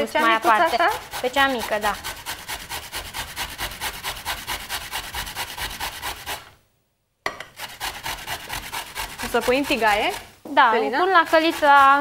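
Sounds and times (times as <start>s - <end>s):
grating on a box grater: 0.0s - 6.5s, 7.6s - 12.0s.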